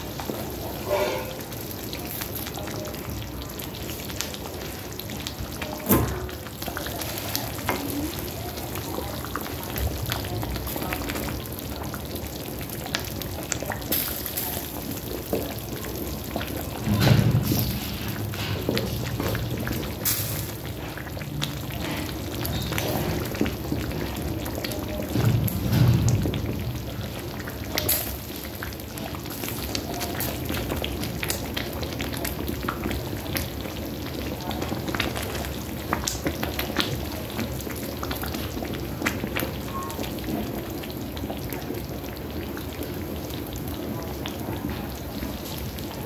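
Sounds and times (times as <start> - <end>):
stew bubbling and popping: 0.0 - 46.0.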